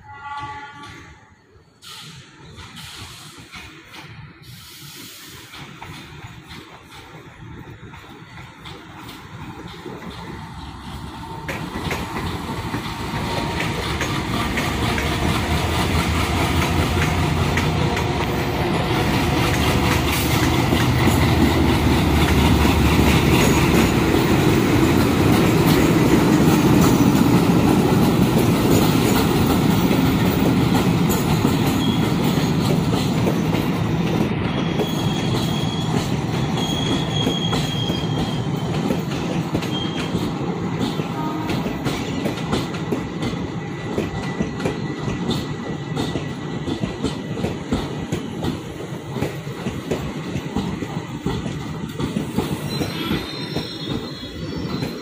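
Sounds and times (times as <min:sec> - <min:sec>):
diesel locomotive engines rumbling: 0:00.0 - 0:55.0
train wheels clacking over rail joints: 0:02.4 - 0:55.0.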